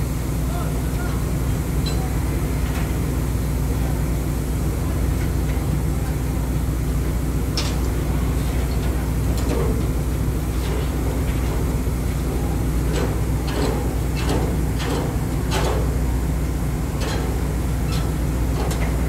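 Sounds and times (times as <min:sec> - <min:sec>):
heavy machinery droning: 0:00.0 - 0:19.0.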